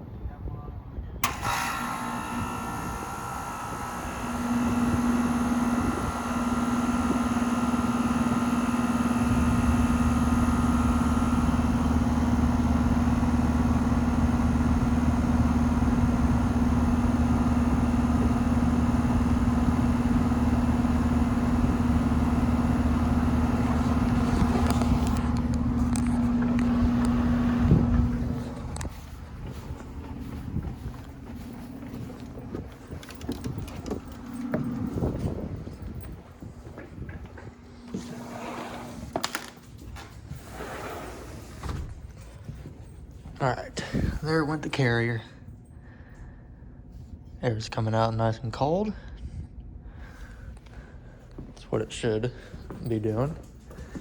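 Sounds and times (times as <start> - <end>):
low fan rumble: 0.0 - 54.0
compressor hum: 1.2 - 54.0.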